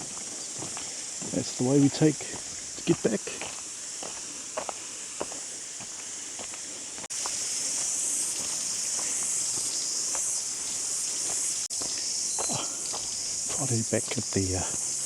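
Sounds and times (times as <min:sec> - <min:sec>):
footsteps on trail: 0:00.0 - 0:15.0
insects droning: 0:00.0 - 0:15.0.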